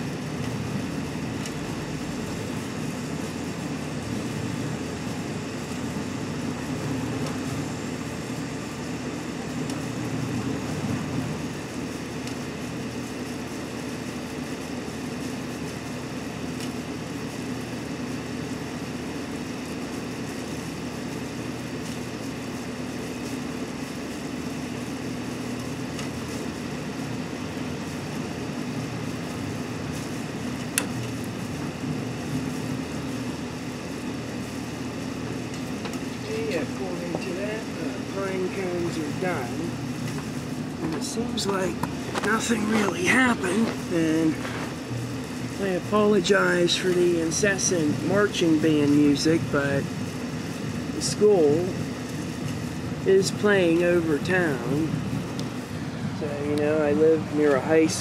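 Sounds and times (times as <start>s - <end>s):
microwave oven humming: 0.0s - 58.0s.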